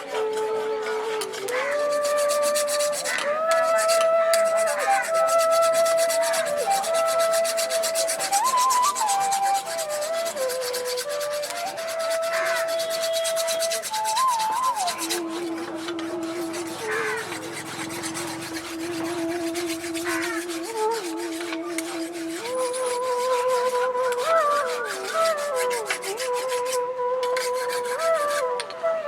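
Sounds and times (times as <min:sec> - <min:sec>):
steel file rasping on metal: 0:01.2 - 0:28.5.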